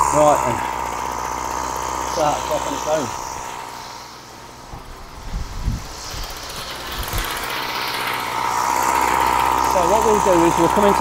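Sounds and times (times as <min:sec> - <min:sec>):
strimmer engine idling: 0:00.0 - 0:11.0.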